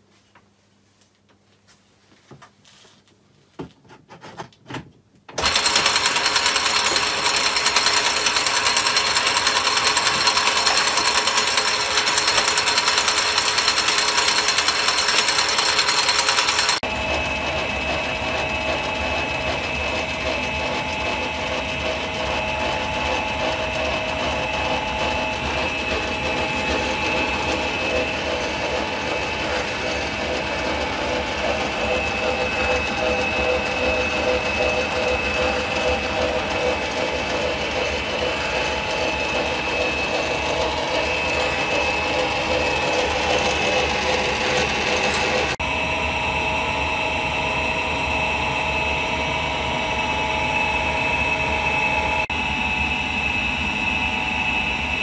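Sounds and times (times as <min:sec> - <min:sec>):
lathe whirring: 0:05.4 - 0:55.0.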